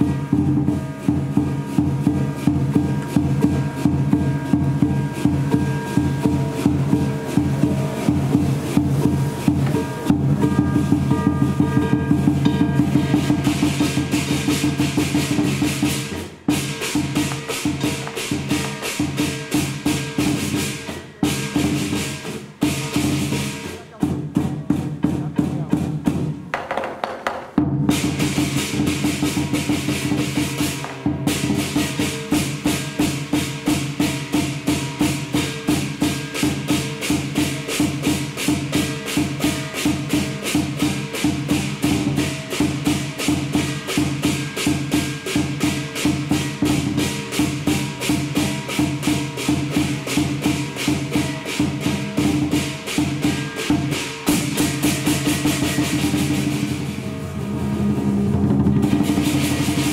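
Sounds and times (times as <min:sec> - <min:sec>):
gong: 0:00.0 - 0:25.2, 0:27.9 - 0:59.9
crashing cymbals: 0:00.0 - 0:26.4, 0:27.6 - 0:59.9
big drum beating: 0:00.0 - 0:59.9.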